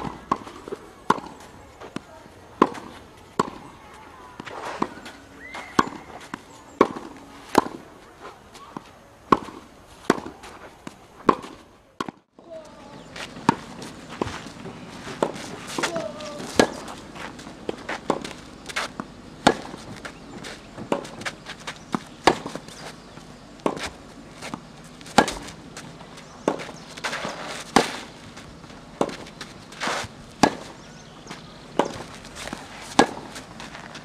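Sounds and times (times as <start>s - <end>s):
racket hitting tennis ball: 0.0s - 23.0s, 23.6s - 34.0s.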